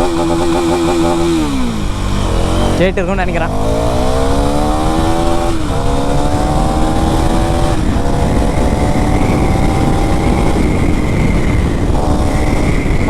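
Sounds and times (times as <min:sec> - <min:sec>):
motorcycle engine accelerating: 0:00.0 - 0:13.0
wind rumble on microphone: 0:00.0 - 0:13.0.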